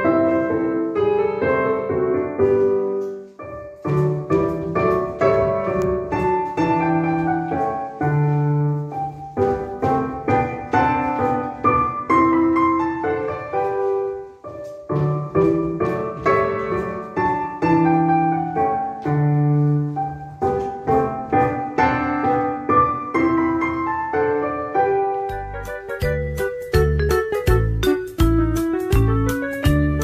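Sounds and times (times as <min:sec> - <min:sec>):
piano melody: 0:00.0 - 0:30.0.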